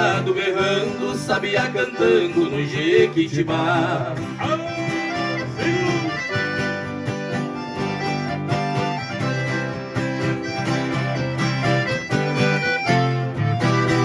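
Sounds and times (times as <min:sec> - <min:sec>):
accordion melody: 0:00.0 - 0:14.0
plucked strings strumming: 0:00.0 - 0:14.0.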